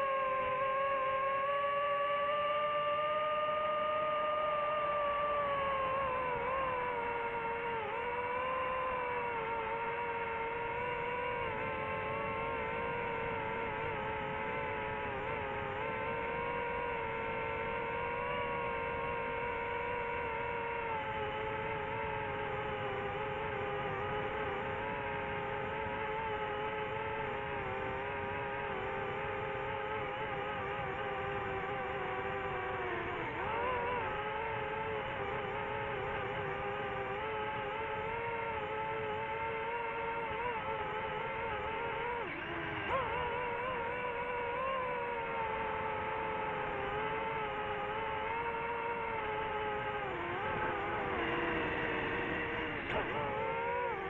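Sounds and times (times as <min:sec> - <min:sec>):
drone propellers whining: 0:00.0 - 0:54.0.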